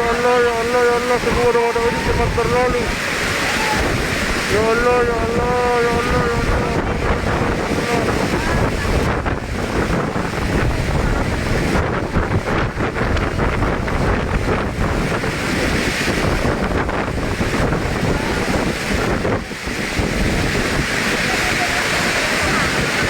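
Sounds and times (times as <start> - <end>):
strong wind on microphone: 0.0 - 23.0.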